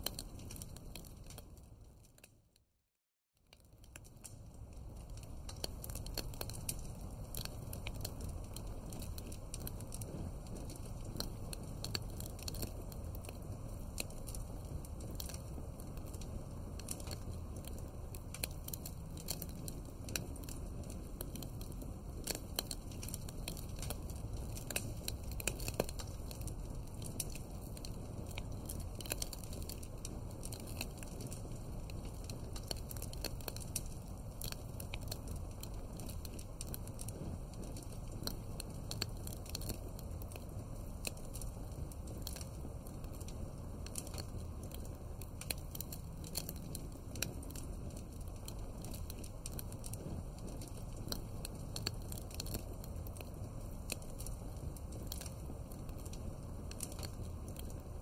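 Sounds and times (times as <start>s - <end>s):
wood fire crackling: 0.0s - 2.5s, 3.5s - 58.0s.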